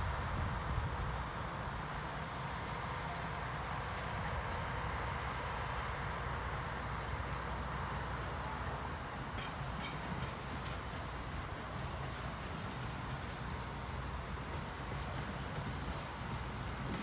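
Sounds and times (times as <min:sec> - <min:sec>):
steam locomotive rumble and hiss: 0:00.0 - 0:17.0.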